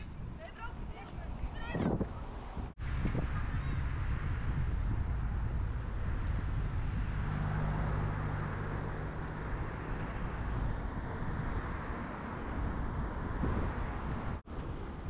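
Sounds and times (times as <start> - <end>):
road traffic noise: 0.0 - 15.0
car engine low hum: 2.8 - 14.9.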